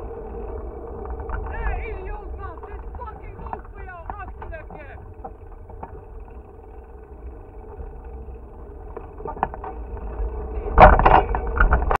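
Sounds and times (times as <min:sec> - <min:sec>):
bicycle riding rumble: 0:00.0 - 0:12.0.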